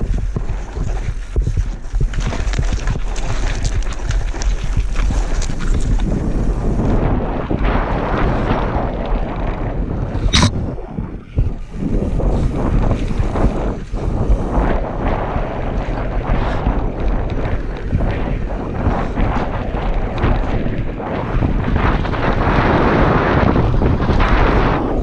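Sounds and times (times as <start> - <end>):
bike tyres crunching on dirt: 0.0 - 10.6, 11.4 - 25.0
wind buffeting microphone: 0.0 - 25.0.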